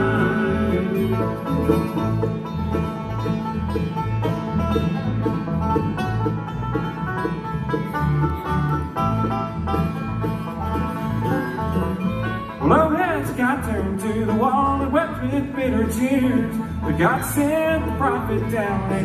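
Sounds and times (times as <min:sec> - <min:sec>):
banjo: 0:00.0 - 0:19.0
bluegrass band playing: 0:00.0 - 0:19.0
upright bass pulse: 0:00.0 - 0:19.0.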